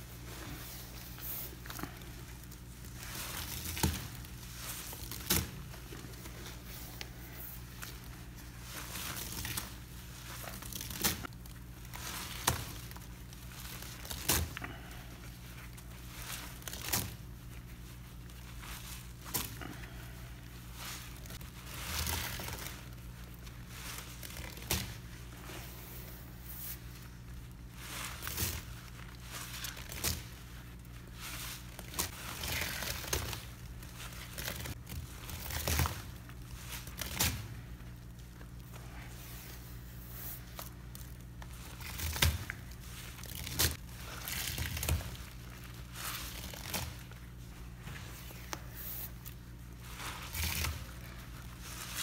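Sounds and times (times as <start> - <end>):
wet sponges squelching: 0.0 - 52.0.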